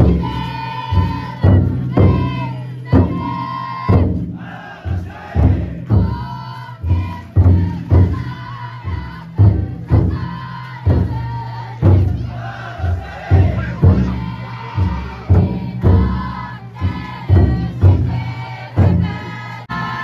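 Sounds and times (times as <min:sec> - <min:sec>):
big drum beaten heavily: 0:00.0 - 0:20.0
voices chanting in unison: 0:00.0 - 0:20.0.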